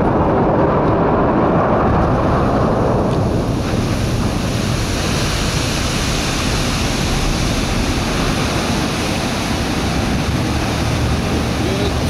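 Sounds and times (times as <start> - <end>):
rushing churning water: 0.0 - 12.0.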